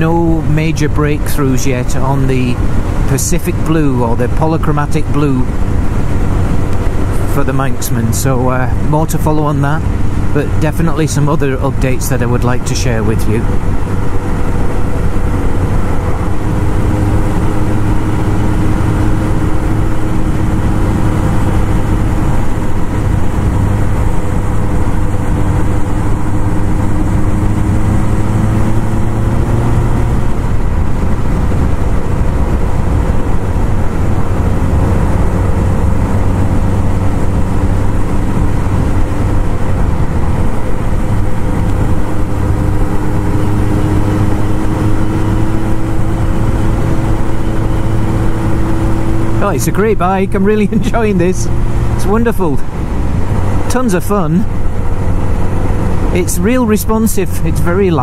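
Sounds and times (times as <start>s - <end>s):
motorcycle engine running: 0.0s - 58.0s
wind rush over microphone: 0.0s - 58.0s.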